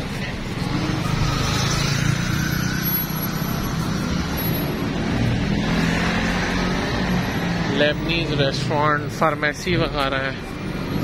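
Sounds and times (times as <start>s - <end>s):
car and motorcycle engines: 0.0s - 11.0s
hum of engines and tyres: 0.0s - 11.0s.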